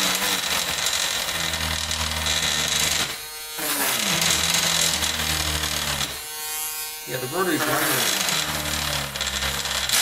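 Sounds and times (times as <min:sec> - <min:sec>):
rotary tool grinding plastic: 0:00.0 - 0:10.0.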